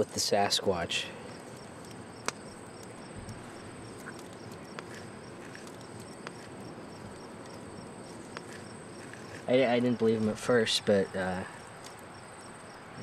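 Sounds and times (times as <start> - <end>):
low even hiss: 0.0 - 12.1
crickets chirping: 0.0 - 13.0.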